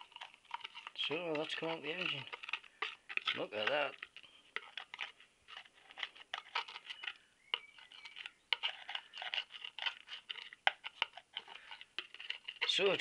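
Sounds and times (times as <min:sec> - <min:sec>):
hands scratching oil filter: 0:00.0 - 0:13.0.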